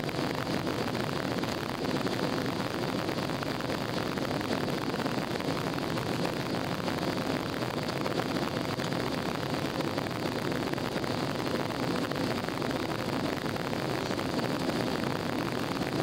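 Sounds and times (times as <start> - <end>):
jet engine and airflow noise: 0.0 - 16.0.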